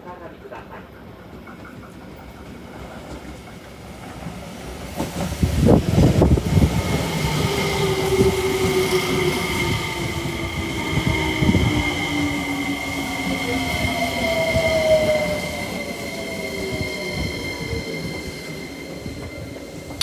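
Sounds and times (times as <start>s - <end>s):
train wheels rumbling and clattering: 0.5s - 20.0s.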